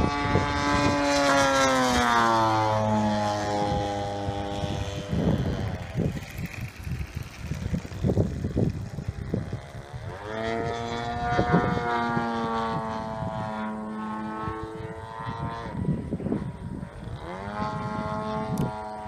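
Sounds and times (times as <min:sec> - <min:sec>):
model plane propeller engine: 0:00.0 - 0:19.0.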